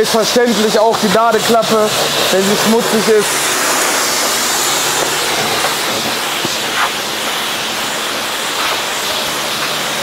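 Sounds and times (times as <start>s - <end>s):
pressure washer spray hissing: 0.1s - 10.0s.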